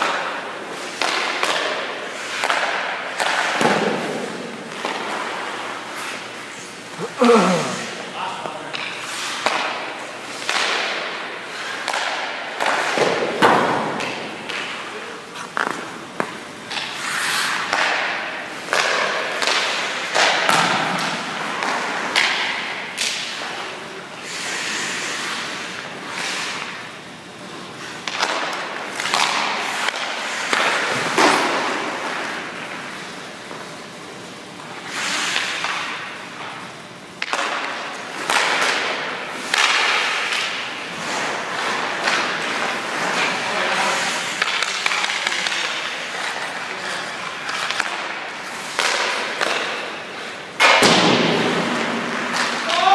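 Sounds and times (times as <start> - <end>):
skate blades scraping on ice: 0.1 - 8.0, 9.0 - 26.8, 27.8 - 33.2, 34.6 - 36.1, 37.3 - 50.7.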